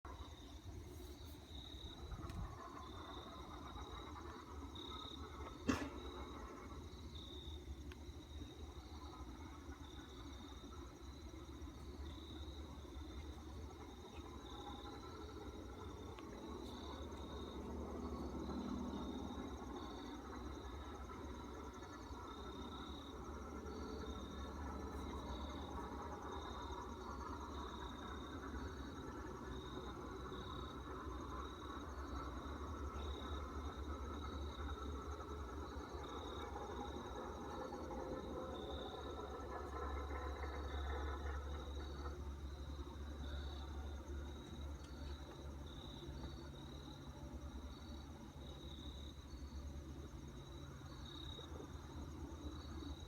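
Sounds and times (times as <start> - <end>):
crickets chirping: 0.0 - 53.0
insects trilling: 0.1 - 53.0
low steady rumble: 0.1 - 53.0.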